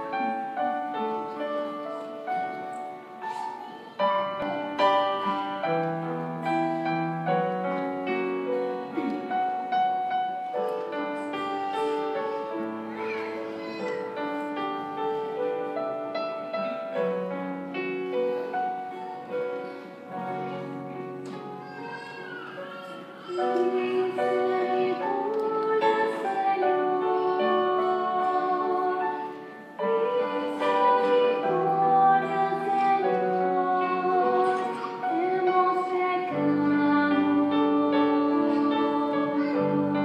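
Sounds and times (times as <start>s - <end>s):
keyboard playing slow chords: 0.0s - 40.0s.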